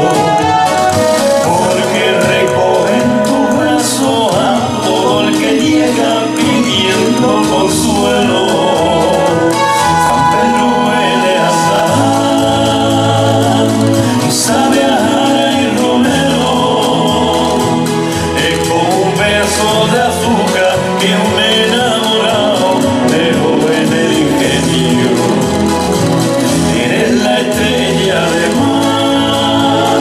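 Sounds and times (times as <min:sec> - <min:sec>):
pasodoble band music: 0:00.0 - 0:30.0
person singing: 0:00.0 - 0:30.0.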